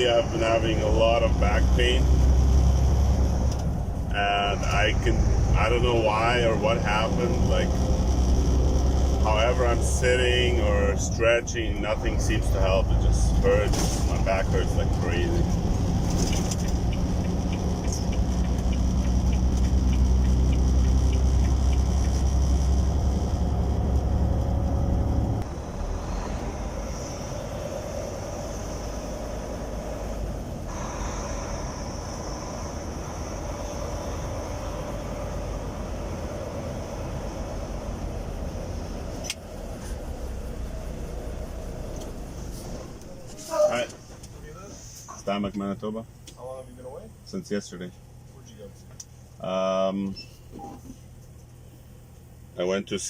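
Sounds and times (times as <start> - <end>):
diesel truck engine: 0.0 - 53.0
road rumble: 0.0 - 53.0.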